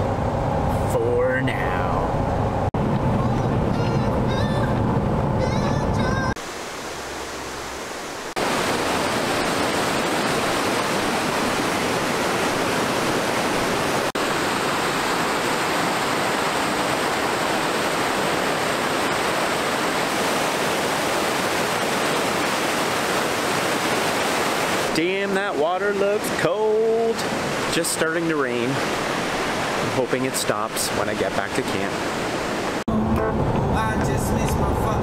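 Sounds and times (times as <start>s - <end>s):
water rushing over rocks: 2.9s - 32.9s.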